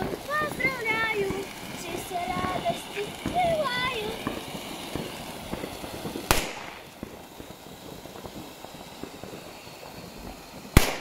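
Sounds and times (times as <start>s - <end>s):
firework bang: 0.0s - 11.0s
fountain fireworks hissing and crackling: 0.0s - 11.0s.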